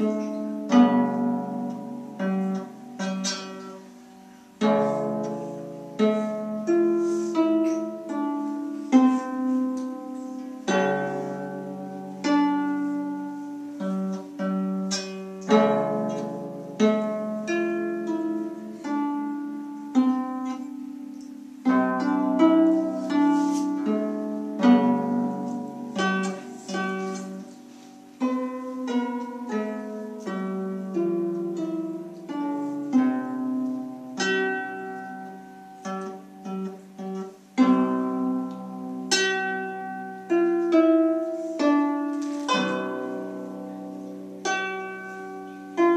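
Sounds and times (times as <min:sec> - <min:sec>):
harp plucked notes: 0:00.0 - 0:45.9.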